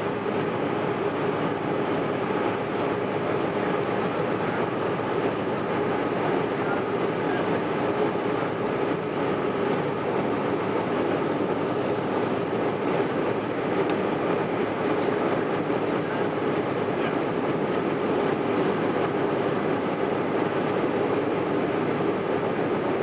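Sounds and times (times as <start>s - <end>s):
aircraft cabin engine drone: 0.0s - 23.0s.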